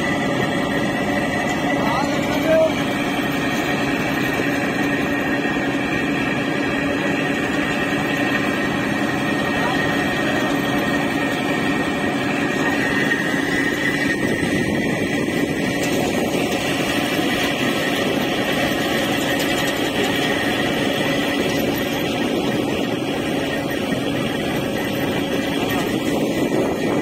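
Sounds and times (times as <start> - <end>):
ferry engine droning: 0.0 - 27.0.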